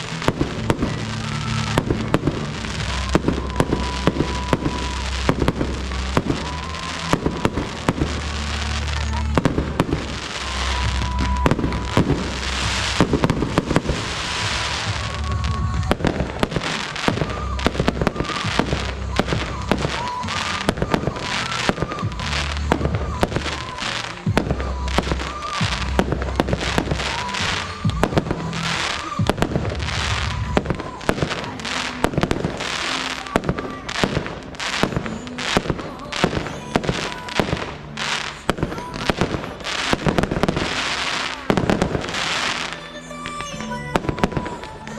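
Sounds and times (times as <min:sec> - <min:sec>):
fireworks bursting: 0:00.0 - 0:44.9
music with heavy bass: 0:00.0 - 0:44.9.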